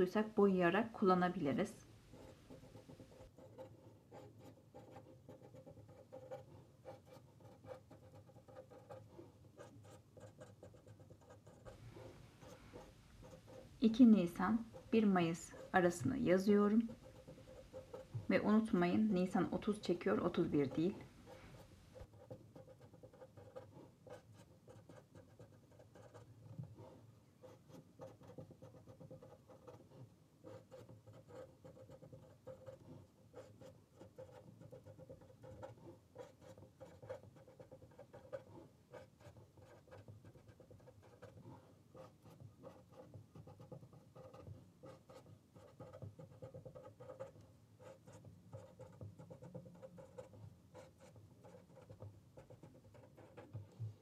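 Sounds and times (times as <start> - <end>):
pen scratching on paper: 1.4 - 54.0.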